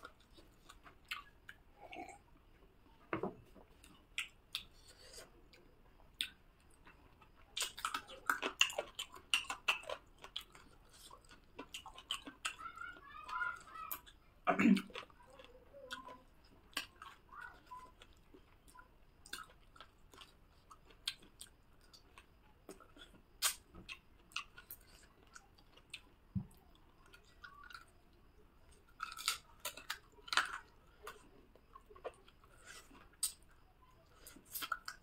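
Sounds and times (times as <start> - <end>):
person chewing food: 0.0 - 12.7, 13.6 - 35.0.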